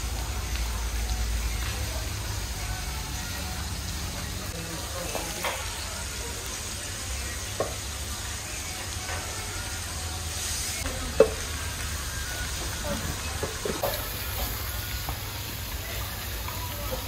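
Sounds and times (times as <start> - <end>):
hiss of cooking over charcoal: 0.0 - 17.0.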